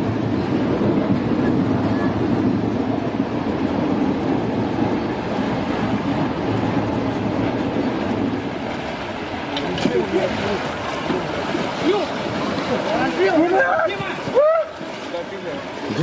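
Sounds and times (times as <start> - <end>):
river water churning and splashing: 0.0 - 16.0.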